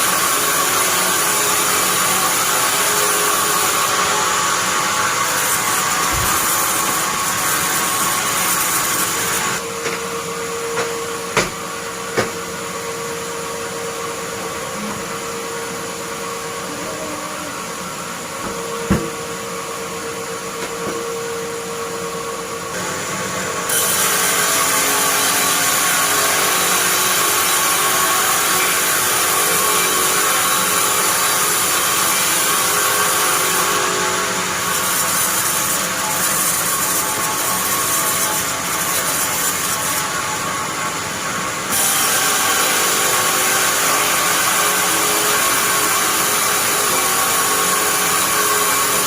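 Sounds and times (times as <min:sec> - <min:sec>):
band saw cutting wood: 0:00.0 - 0:17.6, 0:20.4 - 0:49.0.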